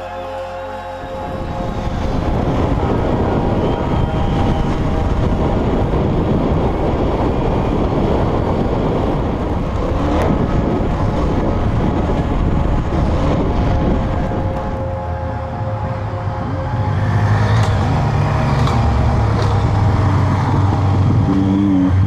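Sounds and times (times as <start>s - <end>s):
wind rush buffeting microphone: 1.0s - 22.0s
motorcycle engine: 1.1s - 22.0s.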